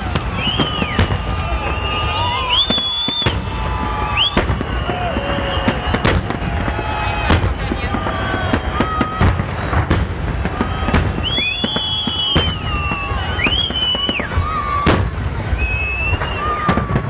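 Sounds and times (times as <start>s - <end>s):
fireworks bangs: 0.0s - 17.0s
fireworks whistling: 0.0s - 17.0s.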